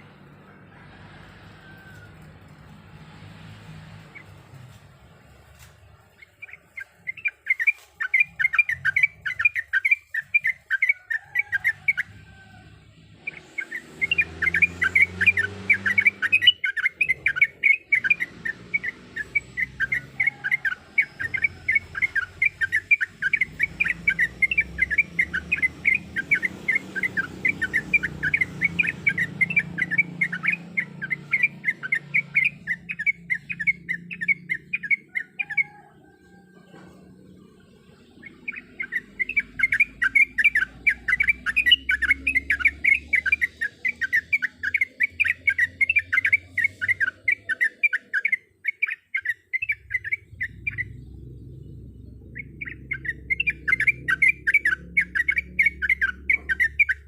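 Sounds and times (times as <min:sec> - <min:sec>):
bird singing bubbly chirps: 0:06.1 - 0:12.1, 0:13.2 - 0:35.9, 0:37.6 - 0:57.0.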